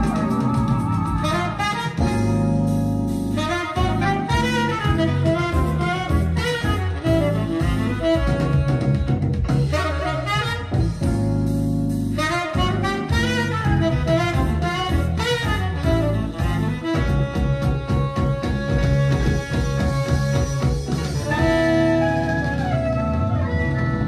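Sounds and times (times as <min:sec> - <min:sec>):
jazz saxophone over bass: 0:00.0 - 0:24.0.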